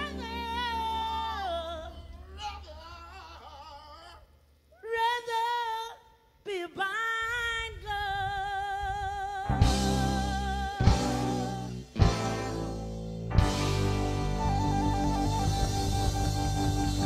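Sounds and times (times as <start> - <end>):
soul song with singer: 0.0 - 12.8, 13.4 - 17.0.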